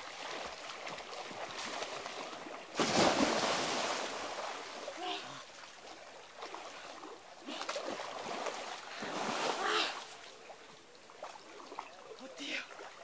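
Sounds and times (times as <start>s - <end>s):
people splashing through water: 0.0s - 13.0s.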